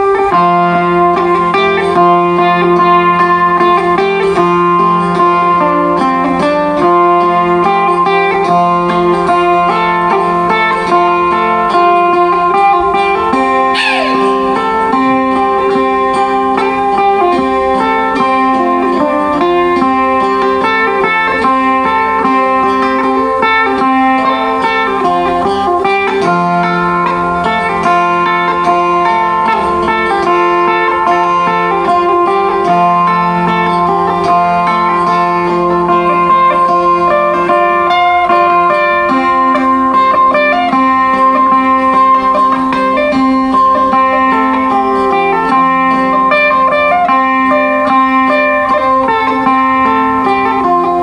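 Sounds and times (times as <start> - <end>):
lute plucked melody: 0.0 - 51.0.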